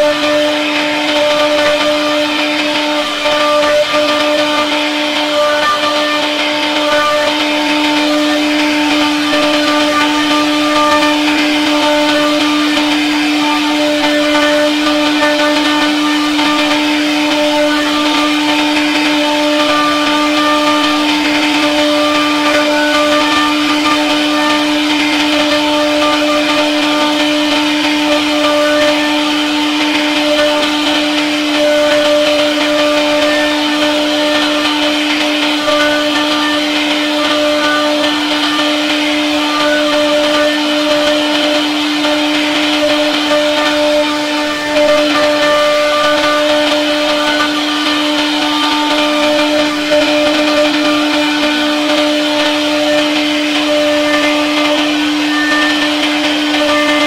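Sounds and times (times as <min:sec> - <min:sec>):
bit cutting wood: 0:00.0 - 0:57.0
router spindle whine: 0:00.0 - 0:57.0.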